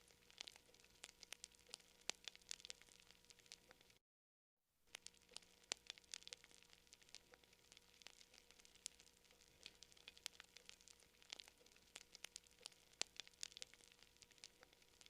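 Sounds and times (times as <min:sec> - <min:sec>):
campfire crackling: 0:00.0 - 0:04.0, 0:04.9 - 0:15.0.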